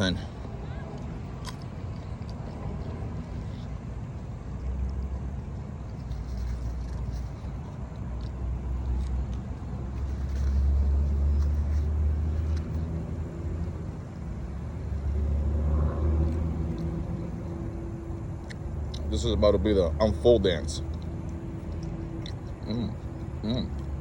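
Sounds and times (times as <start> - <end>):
passing vehicle engines: 0.0 - 24.0
road traffic rumble: 0.0 - 24.0.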